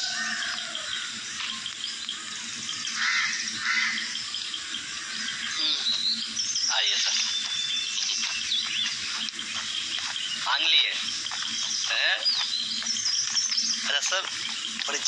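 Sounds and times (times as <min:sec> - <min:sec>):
birds chirping and calling: 0:00.0 - 0:15.0
steady high hiss: 0:00.0 - 0:15.0.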